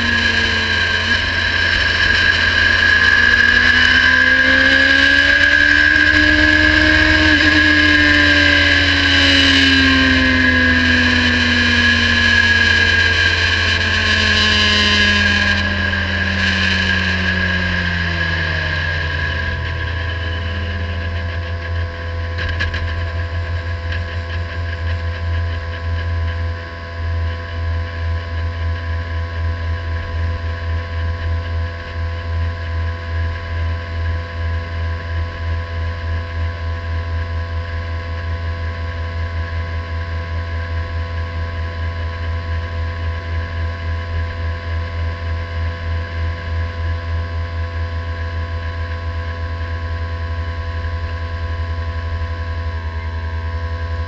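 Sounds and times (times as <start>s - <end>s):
race car engine at low revs: 0.0s - 54.0s.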